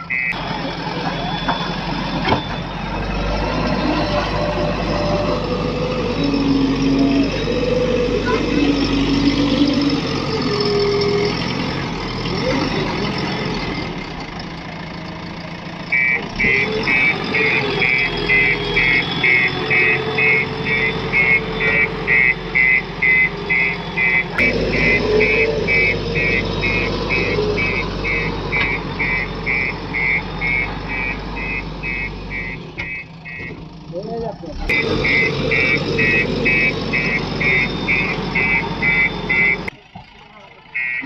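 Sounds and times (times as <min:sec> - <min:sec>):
reversing alarm beeping: 0:00.0 - 0:14.2, 0:15.8 - 0:33.8, 0:34.7 - 0:39.7, 0:40.8 - 0:41.0
diesel engine running: 0:00.0 - 0:41.0.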